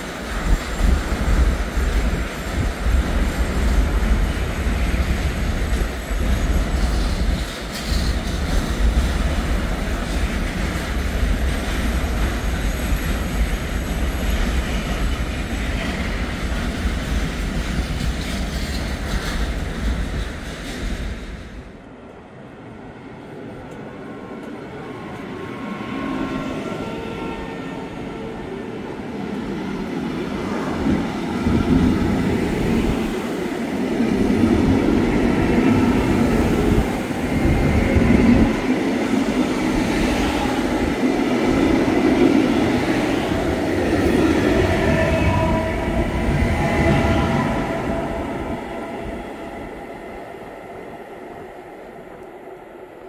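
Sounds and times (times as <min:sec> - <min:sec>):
train rumble and wheel clatter: 0:00.0 - 0:53.0.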